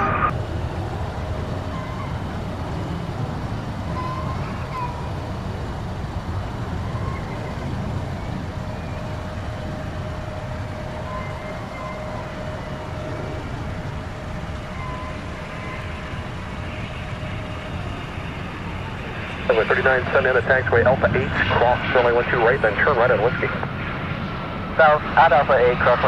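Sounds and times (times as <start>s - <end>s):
engine rumble: 0.0s - 26.0s
thin steady whine: 0.0s - 26.0s.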